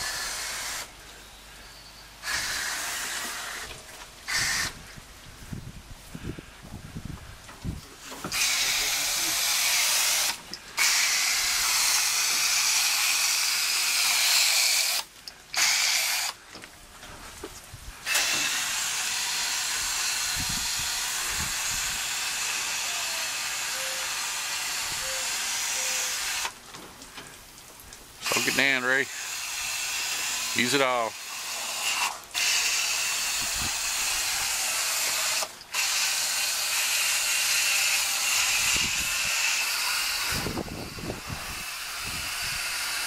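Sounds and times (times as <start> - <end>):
pressure sprayer hissing: 0.0 - 1.0, 2.1 - 4.8, 8.0 - 16.4, 18.0 - 26.6, 28.2 - 43.0.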